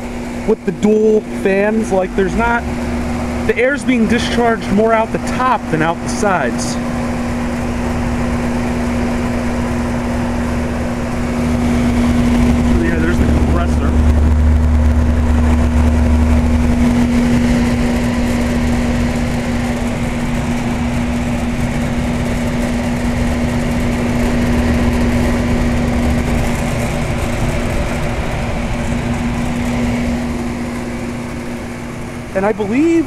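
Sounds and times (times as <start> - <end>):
compressor humming: 0.0 - 33.0
fans rushing air: 0.0 - 33.0.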